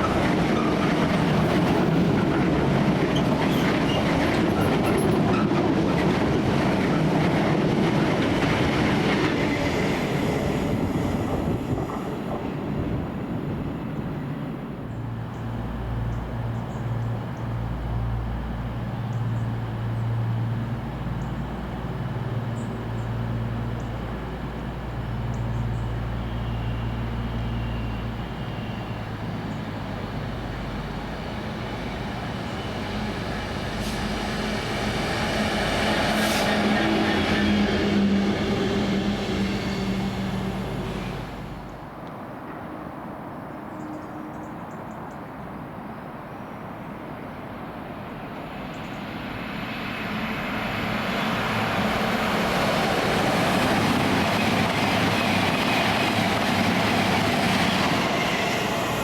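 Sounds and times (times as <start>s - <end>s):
train rumble and rail clatter: 0.0s - 59.0s.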